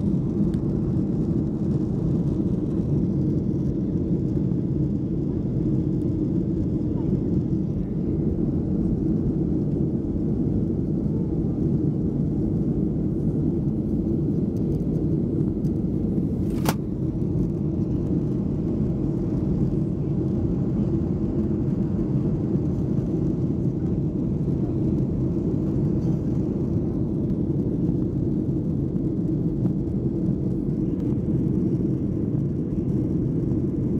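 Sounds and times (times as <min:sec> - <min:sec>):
airplane cabin low rumble: 0:00.0 - 0:33.9.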